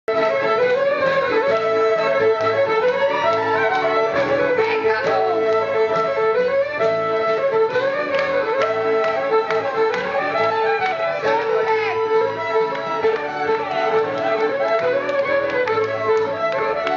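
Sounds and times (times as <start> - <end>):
fiddle-led barn dance music: 0.1 - 16.9.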